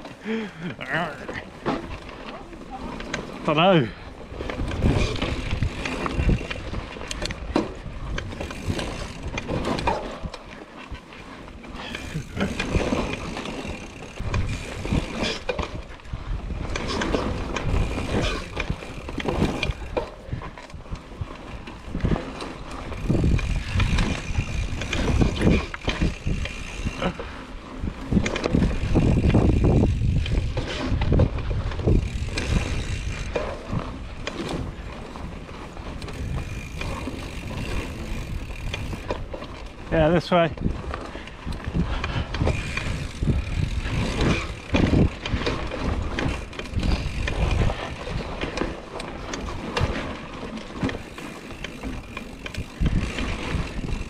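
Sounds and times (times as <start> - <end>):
bike chain and frame rattling: 0.0 - 54.0
bike tyres rumbling on dirt: 0.0 - 54.0
wind: 0.0 - 54.0.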